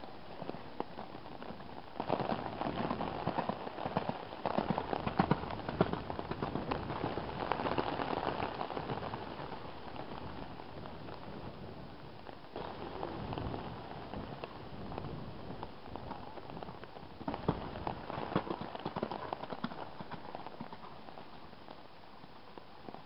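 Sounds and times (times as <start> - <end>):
rain pattering: 0.0 - 23.0.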